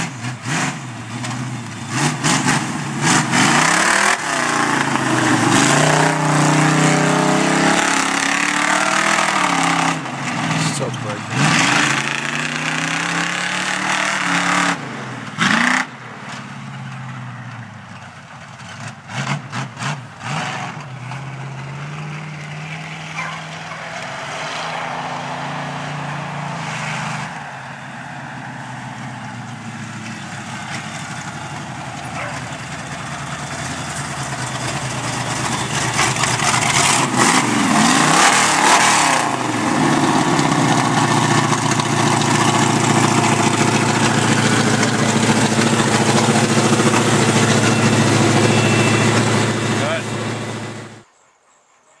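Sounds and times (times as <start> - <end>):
truck engine revving: 0.0 - 51.1.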